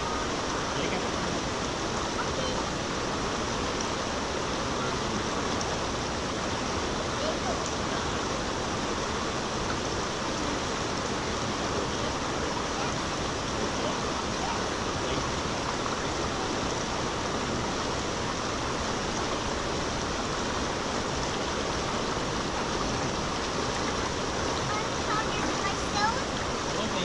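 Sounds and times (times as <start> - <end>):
flowing water rushing: 0.0 - 27.0.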